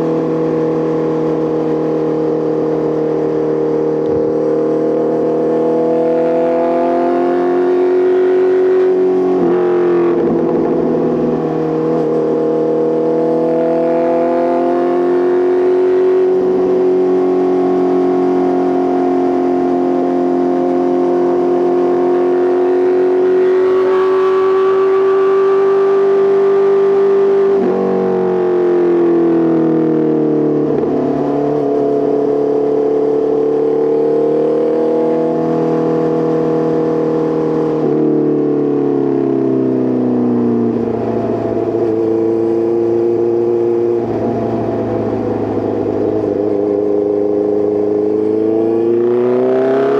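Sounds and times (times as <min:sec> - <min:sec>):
motorcycle engine shifting gears: 0:00.0 - 0:49.9.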